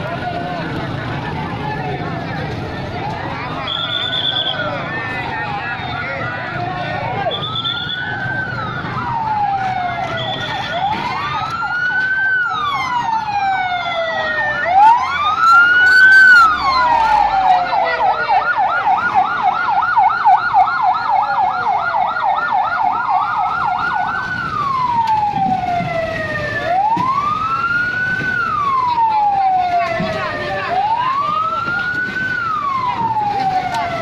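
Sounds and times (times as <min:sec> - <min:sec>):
fire engine siren wailing: 0:00.0 - 0:34.0
siren fast yelp: 0:03.6 - 0:34.0.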